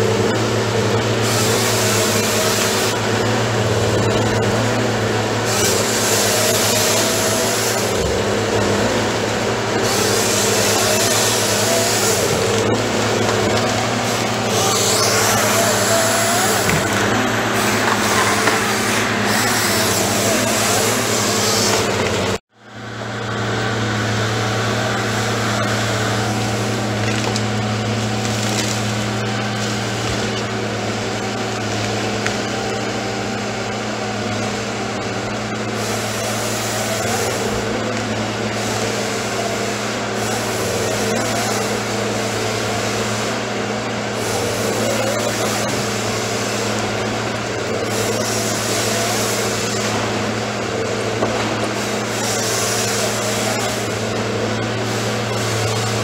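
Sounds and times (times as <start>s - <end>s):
processing head sawing wood: 0.0s - 22.5s, 23.2s - 56.0s
diesel engine humming: 0.0s - 56.0s.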